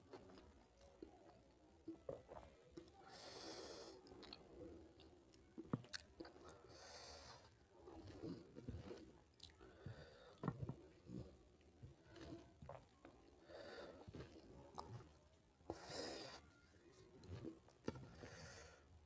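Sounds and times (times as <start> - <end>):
chewing and wet mouth noises: 0.0 - 18.6.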